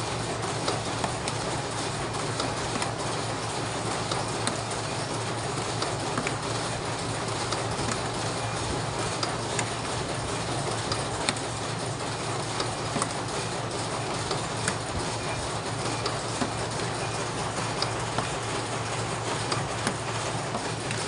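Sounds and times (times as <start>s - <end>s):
machine mechanical clatter: 0.0s - 21.0s.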